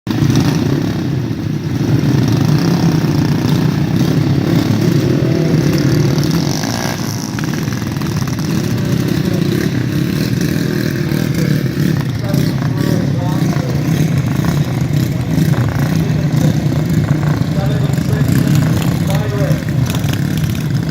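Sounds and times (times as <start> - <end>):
racing motorcycle engines: 0.1 - 20.9.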